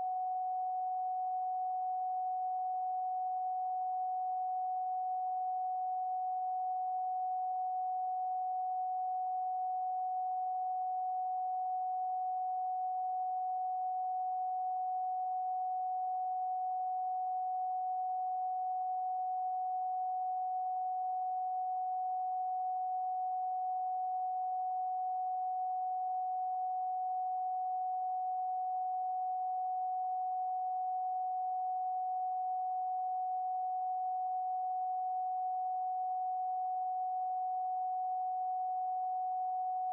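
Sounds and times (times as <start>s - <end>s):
steady sine tone: 0.0s - 39.9s.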